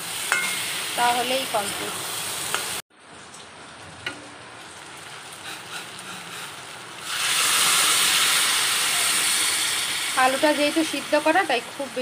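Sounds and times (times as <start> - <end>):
water hissing in hot pan: 0.0 - 2.8, 4.6 - 12.0.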